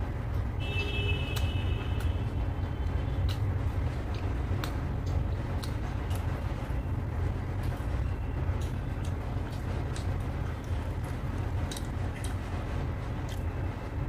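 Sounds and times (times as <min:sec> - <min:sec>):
person chewing wetly: 0:01.2 - 0:13.8.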